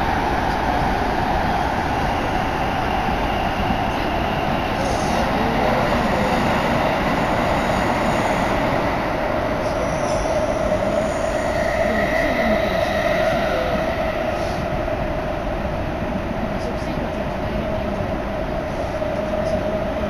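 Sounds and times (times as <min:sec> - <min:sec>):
train rumble with whine: 0:00.0 - 0:20.0.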